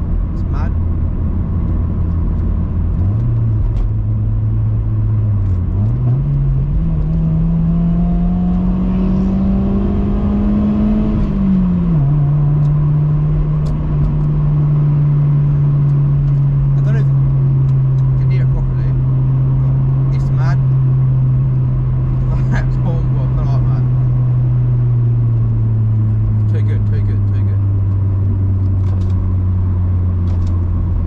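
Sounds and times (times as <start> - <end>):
car engine droning while driving: 0.0 - 31.0.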